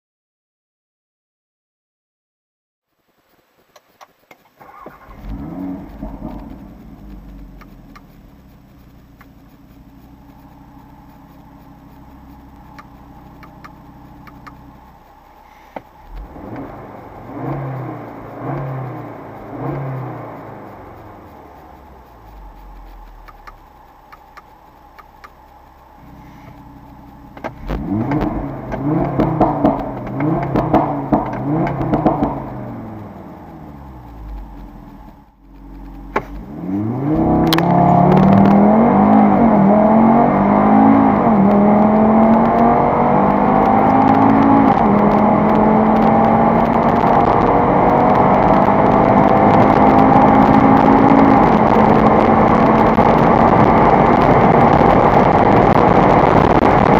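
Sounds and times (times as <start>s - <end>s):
car engine revving: 3.8s - 56.9s
car accelerating hard: 4.6s - 56.9s.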